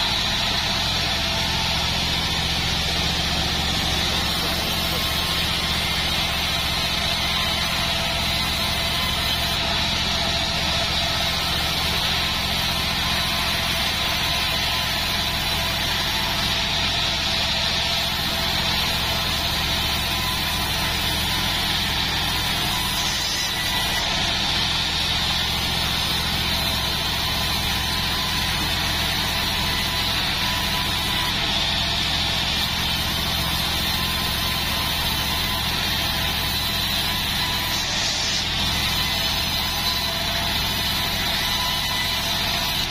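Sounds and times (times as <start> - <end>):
saw blade ripping through wood: 0.0 - 42.9
sawmill motor drone: 0.0 - 42.9.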